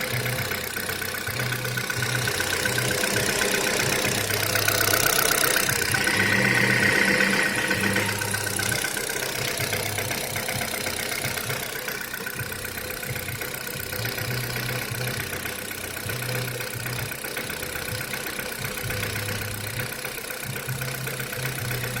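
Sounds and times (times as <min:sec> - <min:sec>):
car engine idling with knocking: 0:00.0 - 0:22.0.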